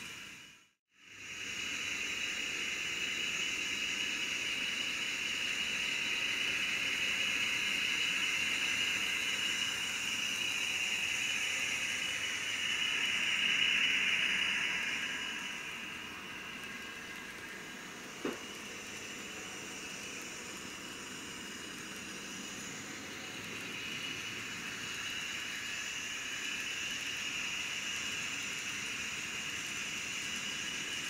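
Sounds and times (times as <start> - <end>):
model train hissing on track: 0.0 - 31.0.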